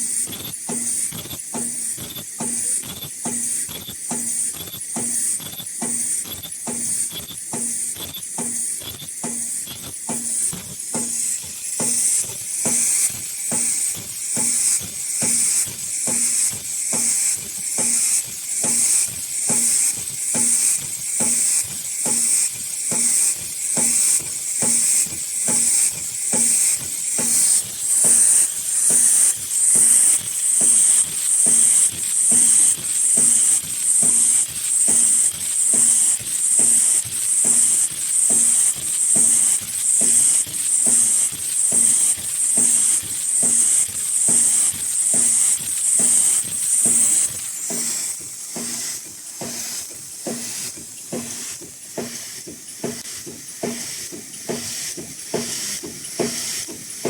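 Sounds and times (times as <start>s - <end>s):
machine hissing and knocking: 0.0s - 57.0s
machine clicking: 0.2s - 57.0s.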